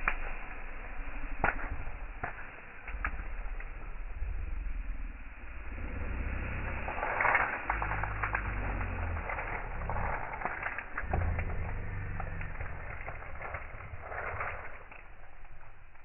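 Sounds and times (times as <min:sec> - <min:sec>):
campfire crackling and popping: 0:00.0 - 0:16.0
low rumble: 0:00.0 - 0:16.0.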